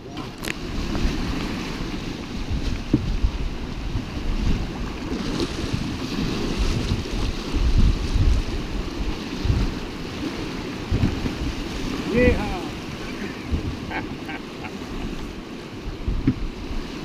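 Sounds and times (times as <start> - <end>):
wind and moving water: 0.0 - 17.0.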